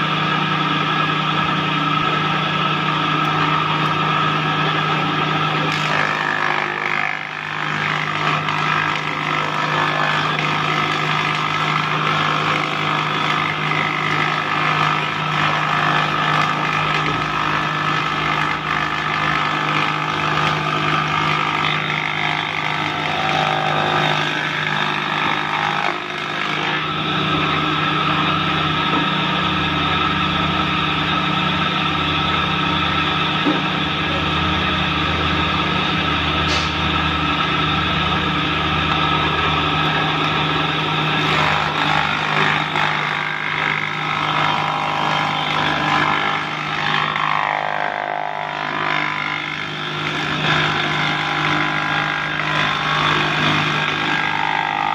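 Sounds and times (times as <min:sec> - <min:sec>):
wood planer running: 0:00.0 - 0:54.9.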